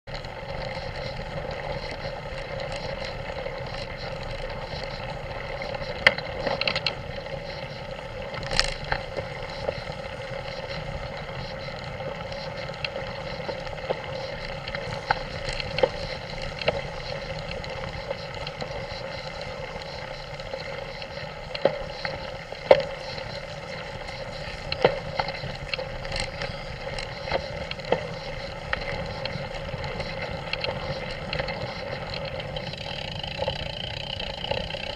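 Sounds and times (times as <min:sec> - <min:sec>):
wind: 0:00.0 - 0:34.9
bike knocks and rattles: 0:00.1 - 0:34.9
tyres rumbling on gravel: 0:00.1 - 0:34.9.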